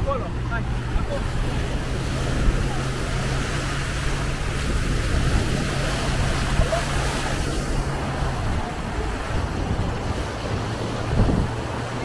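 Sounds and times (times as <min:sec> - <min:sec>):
watercraft engine drone: 0:00.0 - 0:12.0
waves washing onto sand: 0:00.0 - 0:12.0
wind on microphone: 0:00.6 - 0:12.0.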